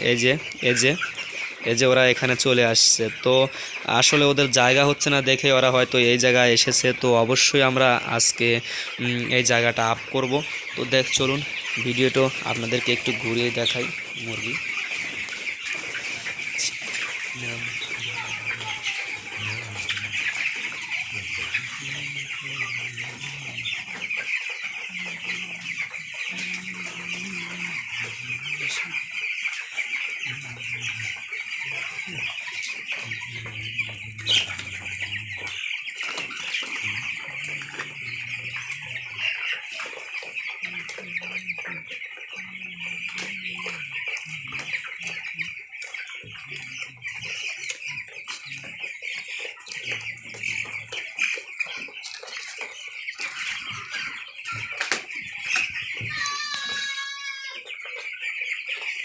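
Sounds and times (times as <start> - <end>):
chickens peeping and clucking: 0.0 - 59.0.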